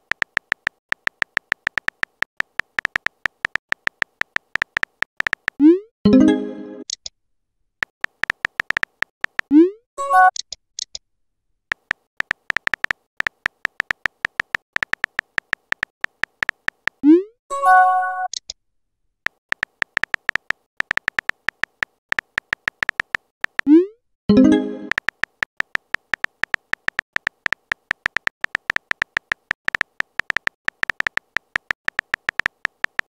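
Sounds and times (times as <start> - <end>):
synthetic keyboard tap clicks: 0.0 - 5.7, 7.8 - 9.7, 11.7 - 17.2, 19.3 - 33.0.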